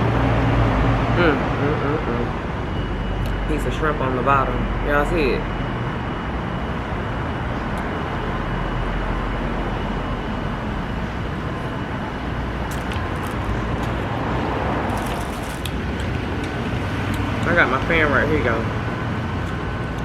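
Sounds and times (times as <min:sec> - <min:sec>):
city traffic hum: 0:00.0 - 0:20.0.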